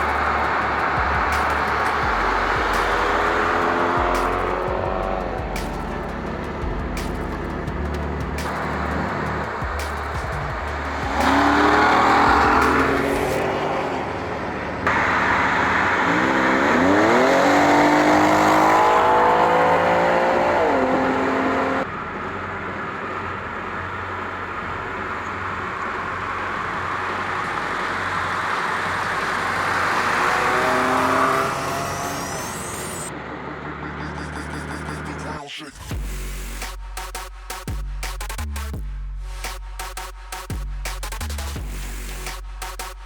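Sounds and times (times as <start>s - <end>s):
car engines revving and accelerating: 0.0s - 35.4s.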